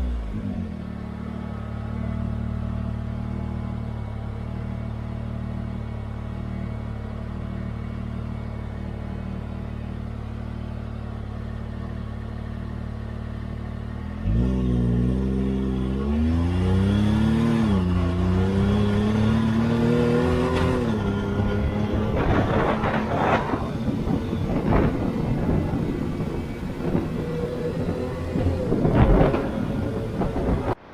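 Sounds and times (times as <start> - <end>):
engine running and revving: 0.0 - 30.9.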